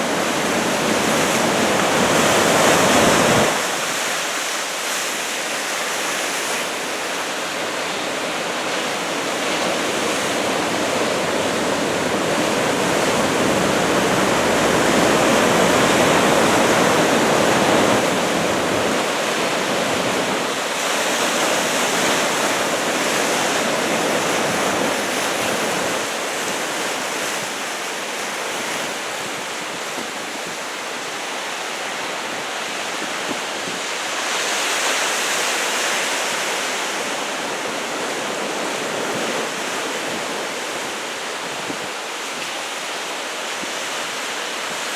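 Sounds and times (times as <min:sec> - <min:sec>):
heavy surf breaking on shore: 0:00.0 - 0:44.9.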